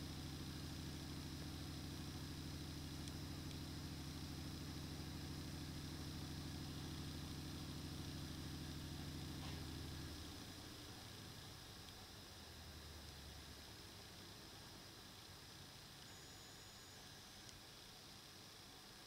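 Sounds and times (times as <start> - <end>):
low mechanical motor hum: 0.0 - 19.0.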